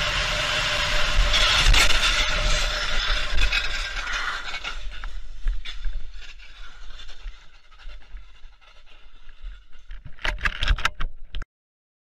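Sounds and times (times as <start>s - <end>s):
camera jostling and scraping: 1.3s - 11.4s.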